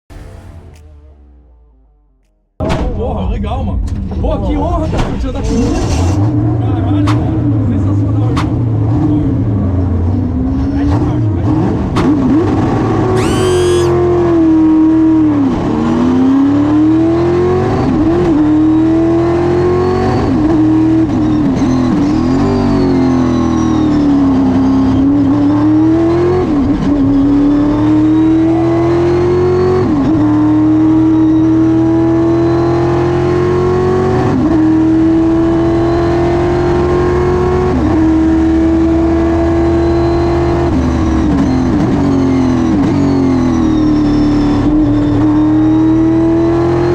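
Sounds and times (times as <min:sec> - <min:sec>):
racing car engine revving: 0:05.7 - 0:46.9.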